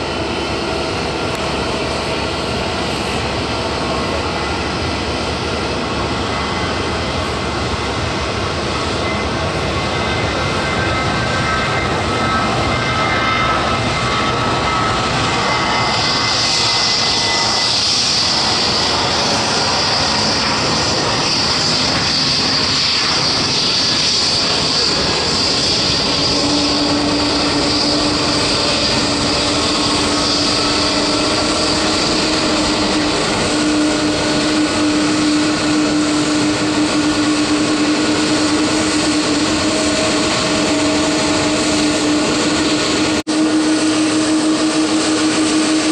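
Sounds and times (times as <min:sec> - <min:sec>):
jet engines whining: 0:00.0 - 0:45.9
loud rushing noise: 0:00.0 - 0:45.9.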